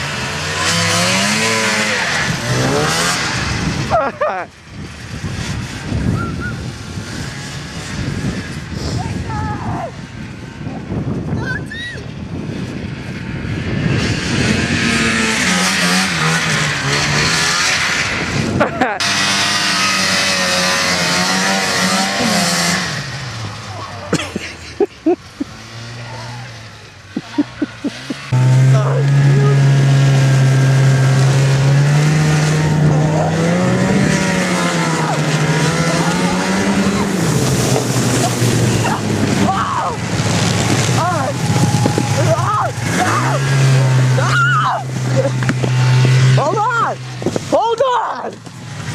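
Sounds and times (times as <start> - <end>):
snowmobile engine running: 0.0 - 11.5, 12.3 - 48.9.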